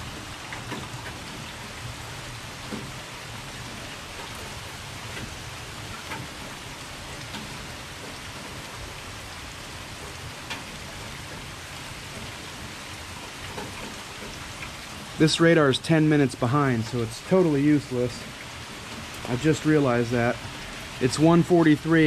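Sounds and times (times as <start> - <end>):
close raindrop hits: 0.0 - 22.0
steady rain: 0.0 - 22.0.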